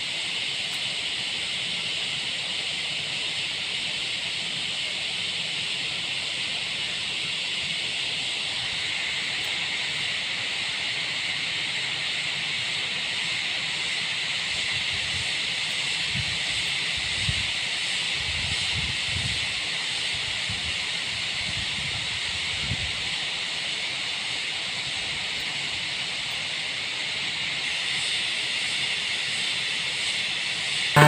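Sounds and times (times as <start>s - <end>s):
steady high-pitched hiss: 0.0s - 31.0s.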